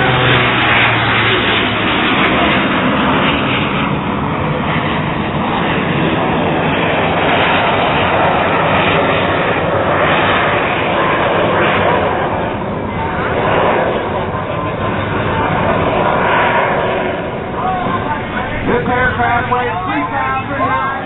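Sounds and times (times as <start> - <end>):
propeller airplane engine drone: 0.0 - 21.0.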